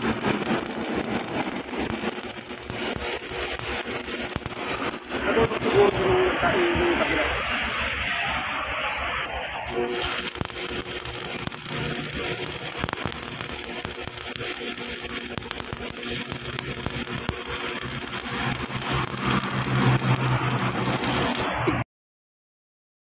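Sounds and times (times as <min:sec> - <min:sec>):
welding arc crackling and sizzling: 0:00.0 - 0:21.8.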